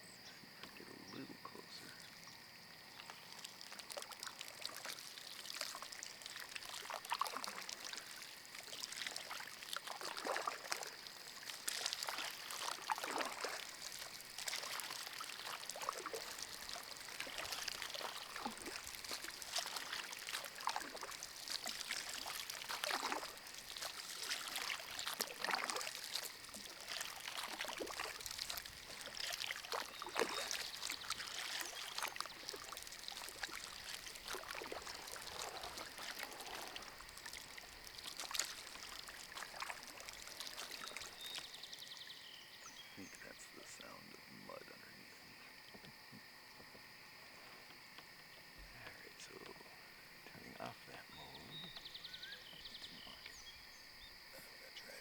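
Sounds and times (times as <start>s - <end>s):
paddle splashing in water: 0.0s - 55.0s
water dripping off paddle: 1.6s - 42.2s, 43.0s - 53.6s.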